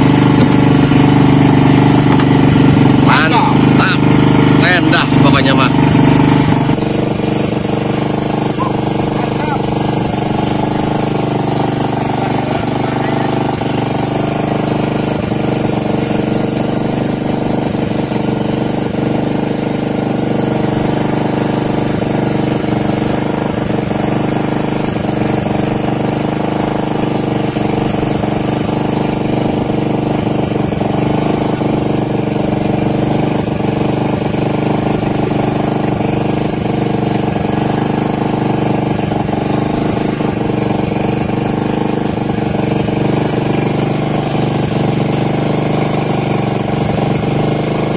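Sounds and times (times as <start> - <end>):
engine droning steadily: 0.0 - 47.9.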